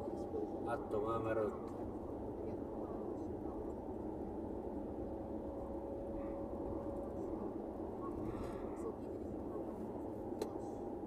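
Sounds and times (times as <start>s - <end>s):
car cabin road and engine noise: 0.0s - 11.0s
faint steady whine: 0.0s - 11.0s.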